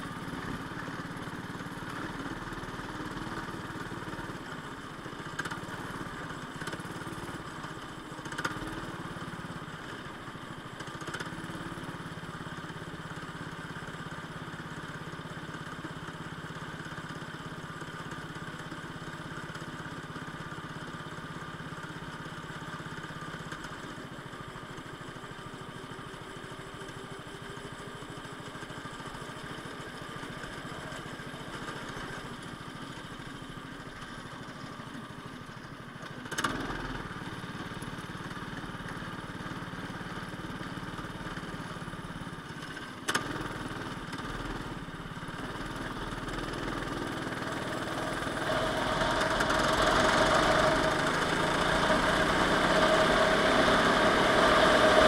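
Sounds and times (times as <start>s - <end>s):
go-kart engine droning: 0.0s - 55.0s.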